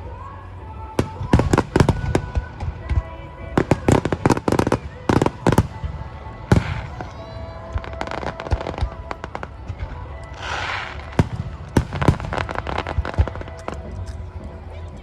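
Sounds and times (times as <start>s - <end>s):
fireworks exploding: 0.9s - 15.0s
hissing crackle: 1.0s - 15.0s.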